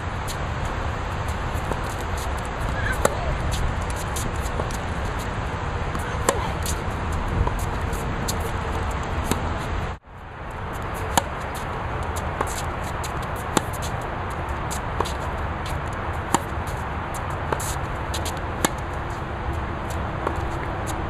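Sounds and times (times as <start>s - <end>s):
tennis racket hitting ball: 1.3s - 9.8s, 10.7s - 21.0s.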